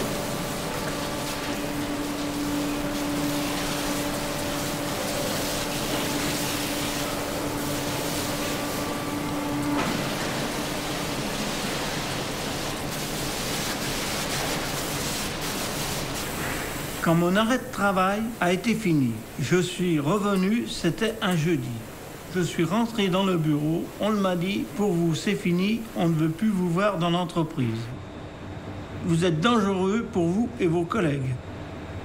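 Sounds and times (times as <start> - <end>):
machinery hiss: 0.0 - 28.0
machine hum: 0.0 - 32.0.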